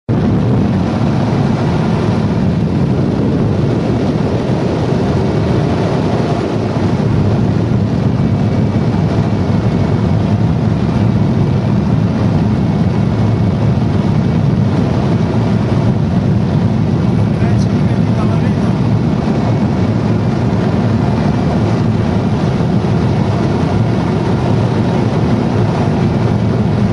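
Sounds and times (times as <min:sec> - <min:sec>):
air rushing around glider: 0:00.1 - 0:26.9.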